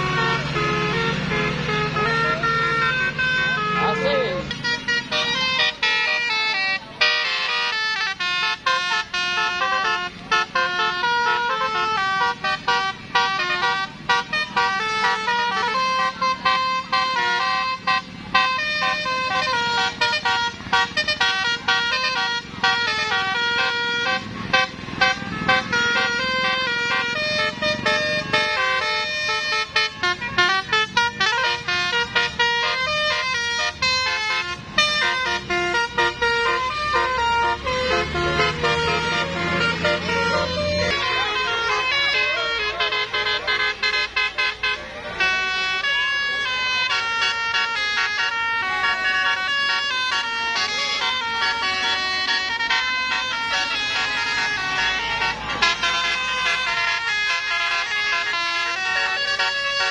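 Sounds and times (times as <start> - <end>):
bus horn playing a melody: 0.0 - 59.9.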